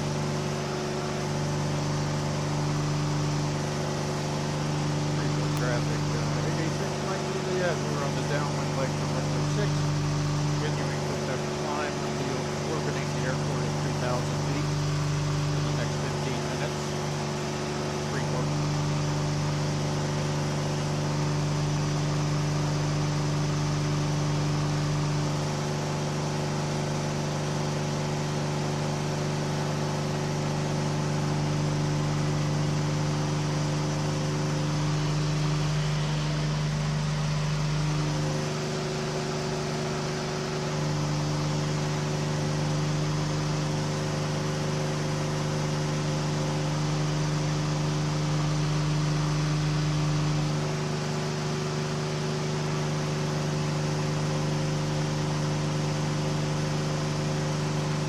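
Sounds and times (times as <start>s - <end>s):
light airplane engine droning: 0.0s - 58.0s.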